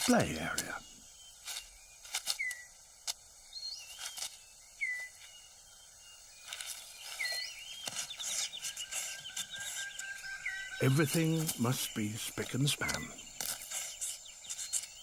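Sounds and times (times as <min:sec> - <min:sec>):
rustling and clicking of leaves: 0:00.0 - 0:05.4, 0:06.4 - 0:15.0
thin steady insect tone: 0:00.0 - 0:15.0.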